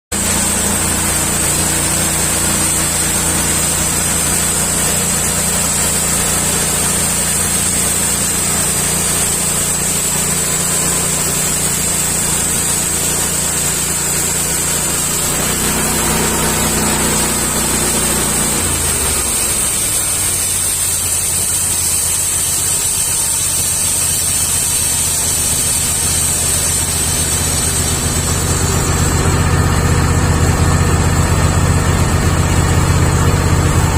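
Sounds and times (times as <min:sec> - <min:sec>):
engine drone: 0:00.1 - 0:33.9
saw blade whine: 0:00.1 - 0:33.9.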